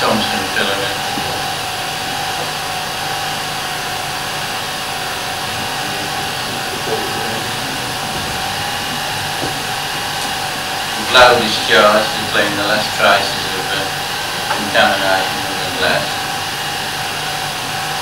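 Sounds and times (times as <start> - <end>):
film projector whirring: 0.0 - 18.0.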